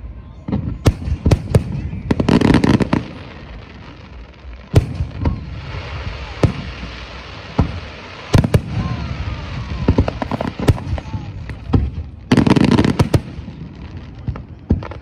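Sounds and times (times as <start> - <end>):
fireworks crackling: 0.1 - 15.0
fireworks booming: 0.3 - 15.0.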